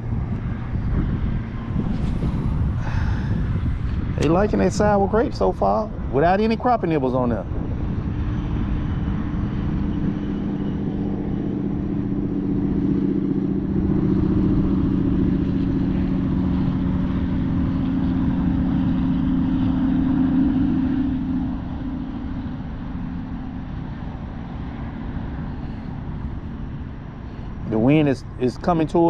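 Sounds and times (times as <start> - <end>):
engine drone: 0.0 - 29.0.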